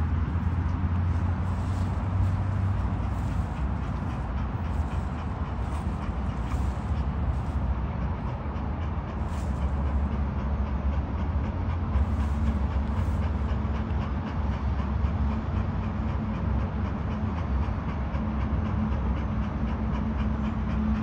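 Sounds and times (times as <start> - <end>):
dog panting: 0.0 - 21.0
steady low rumble: 0.0 - 21.0.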